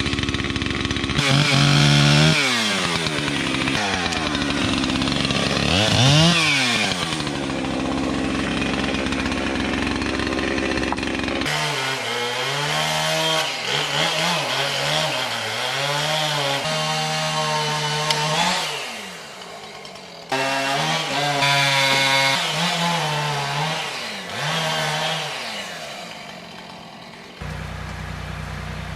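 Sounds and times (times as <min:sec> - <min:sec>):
chainsaw cutting logs: 0:00.0 - 0:28.9.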